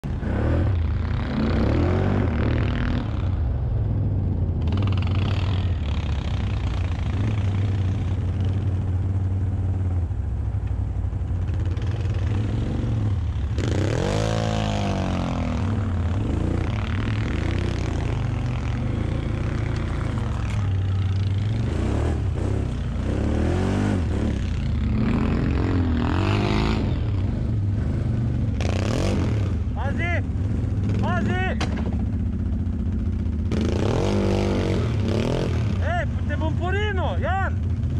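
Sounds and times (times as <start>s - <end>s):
atv engine running and revving: 0.0s - 37.9s.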